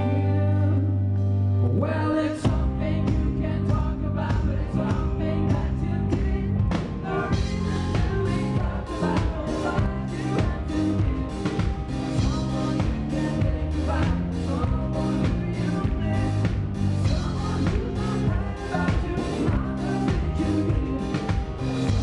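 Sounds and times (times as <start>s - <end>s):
person singing: 0.0s - 22.0s
pop-rock band playing: 0.0s - 22.0s
drums beating: 2.5s - 22.0s.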